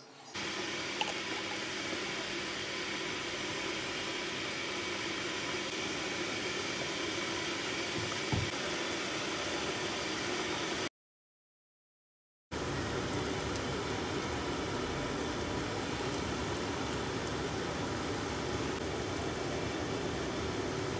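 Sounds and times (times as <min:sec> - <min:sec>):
gas burner hissing: 0:00.3 - 0:10.9, 0:12.6 - 0:20.9.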